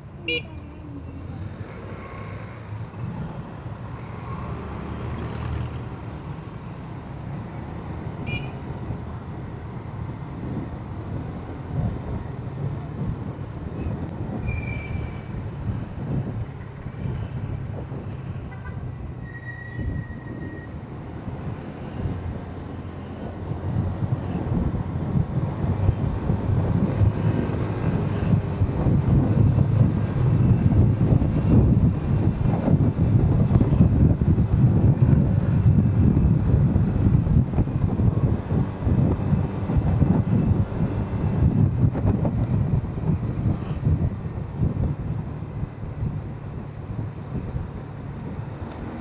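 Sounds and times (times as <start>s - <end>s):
rumble of traffic: 0.0s - 49.0s.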